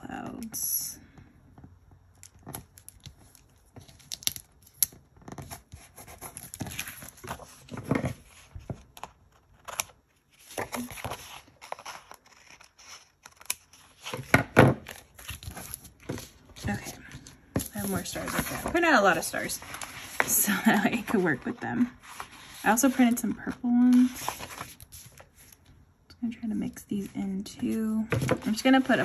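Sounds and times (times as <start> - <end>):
paper rustling: 2.2 - 25.8
wax paper crinkling: 2.2 - 25.8.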